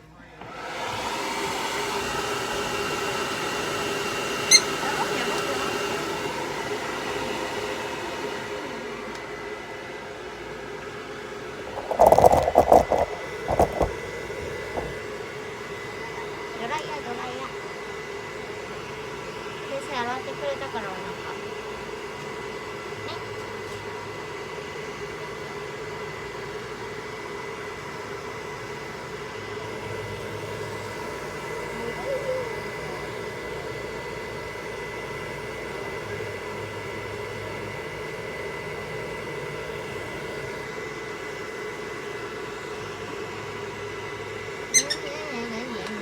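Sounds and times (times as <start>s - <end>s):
hair dryer running: 0.0s - 46.0s.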